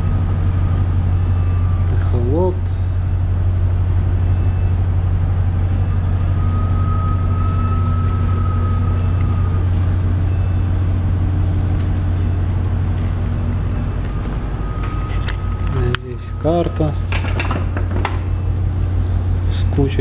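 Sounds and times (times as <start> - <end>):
faint high whine: 0.0 - 20.0
ship machinery hum: 0.0 - 20.0.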